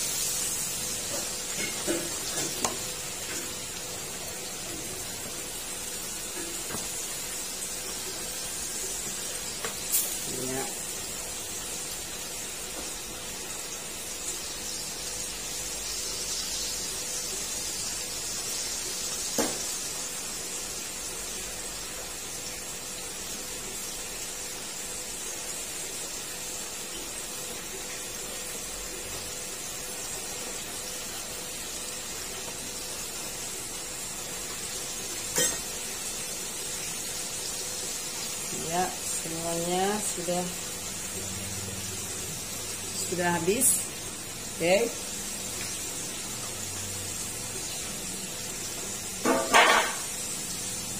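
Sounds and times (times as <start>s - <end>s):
oil sizzling: 0.0s - 50.9s.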